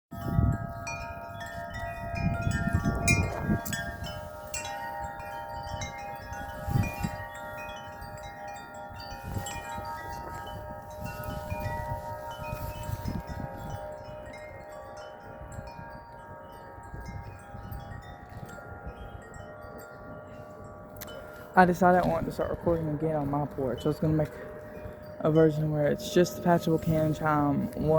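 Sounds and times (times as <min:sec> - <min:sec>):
metal wind chimes ringing: 0:00.1 - 0:27.9
wind gusts on microphone: 0:00.1 - 0:27.9.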